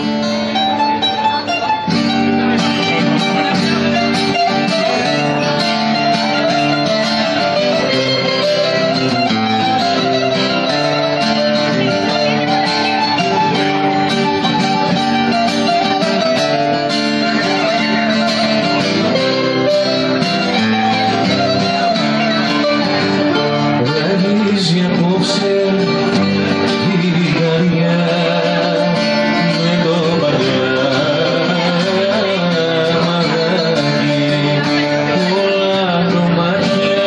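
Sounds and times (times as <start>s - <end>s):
acoustic guitar chords: 0.0s - 37.0s
bouzouki melody: 0.0s - 37.0s.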